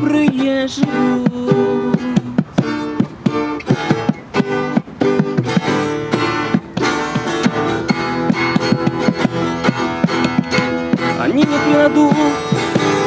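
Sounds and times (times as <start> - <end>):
acoustic guitar strumming: 0.0 - 13.0
goblet drum tapping: 0.0 - 13.0.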